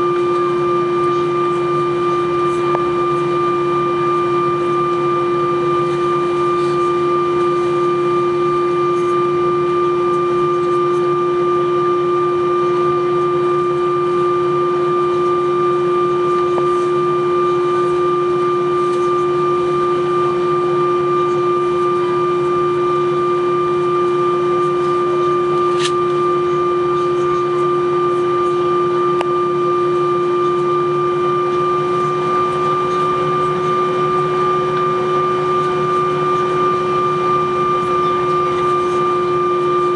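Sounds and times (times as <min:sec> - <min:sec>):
aircraft engines humming: 0:00.0 - 0:39.9.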